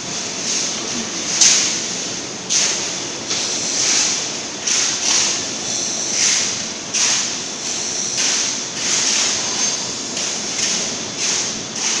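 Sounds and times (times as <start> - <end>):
workshop machinery din: 0.0 - 12.0.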